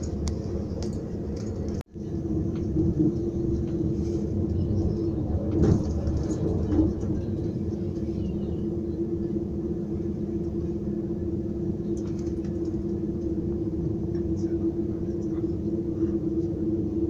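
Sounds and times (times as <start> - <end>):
train cabin rumble: 0.0 - 17.0.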